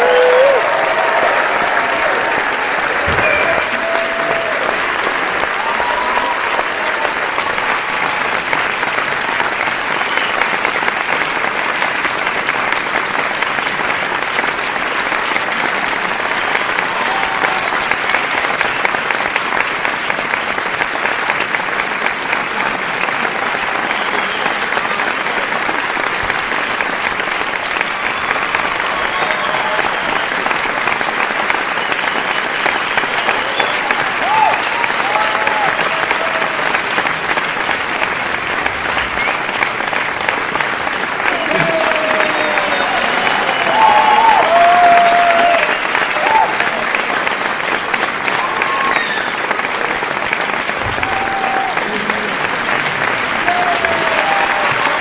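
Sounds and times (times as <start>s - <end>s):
crowd applauding: 0.0s - 55.0s.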